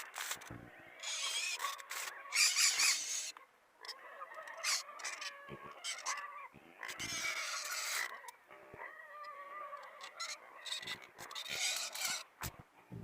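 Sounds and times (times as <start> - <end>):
pigs squealing: 0.0 - 12.6.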